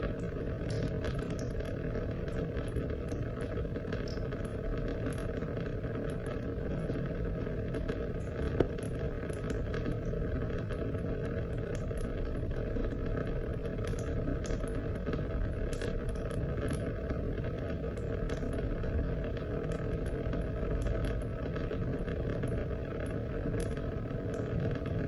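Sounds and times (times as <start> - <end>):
small drip ticks: 0.0 - 25.0
steady rain: 0.0 - 25.0.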